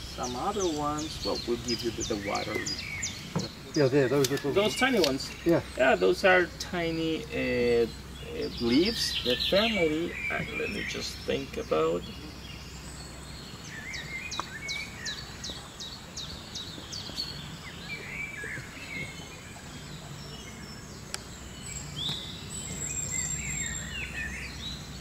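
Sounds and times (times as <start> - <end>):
birds chirping: 0.0 - 25.0
steady high-pitched whine: 0.0 - 25.0.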